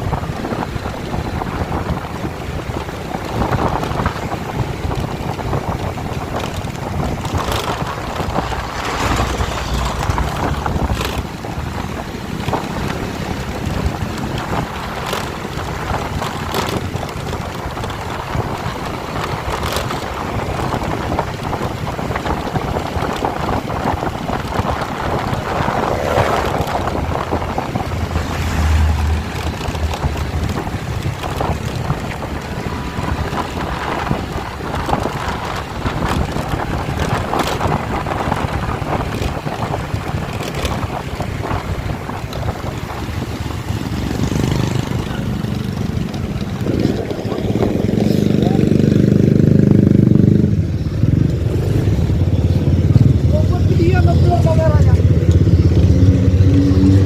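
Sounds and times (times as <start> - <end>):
engine running: 0.0 - 57.0
wind noise on microphone: 0.0 - 57.0.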